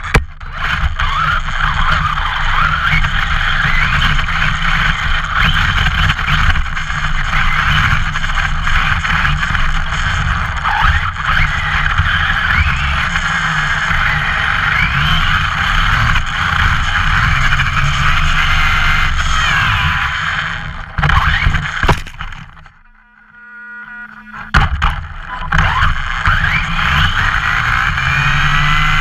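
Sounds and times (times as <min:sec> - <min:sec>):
tyres rumbling on snow and asphalt: 0:00.0 - 0:22.8, 0:24.4 - 0:29.0
rc truck motor whine: 0:00.0 - 0:29.0.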